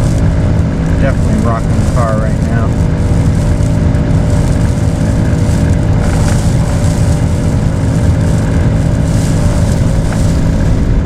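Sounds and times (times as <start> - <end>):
wind gusts buffeting a car: 0.0 - 11.0.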